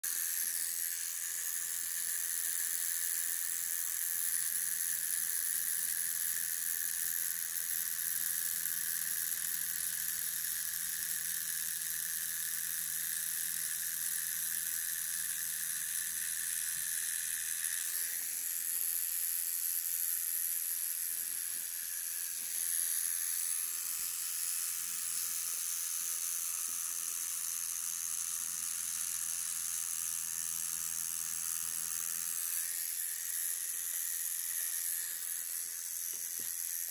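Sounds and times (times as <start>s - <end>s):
tattoo machine whirring: 0.0s - 36.9s.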